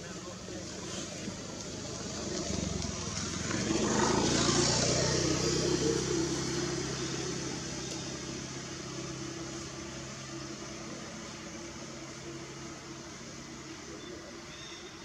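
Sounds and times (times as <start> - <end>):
vehicle engine passing by: 0.2 - 14.4.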